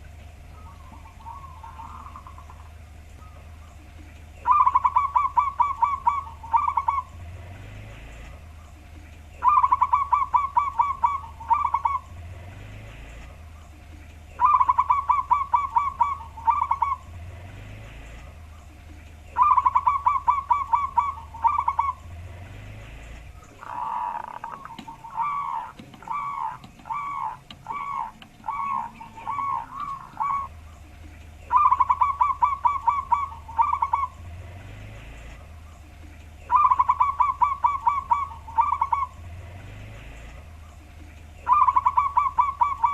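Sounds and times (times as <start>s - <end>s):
dove cooing: 0.0s - 8.8s, 9.4s - 42.9s
low steady hum: 0.0s - 42.9s.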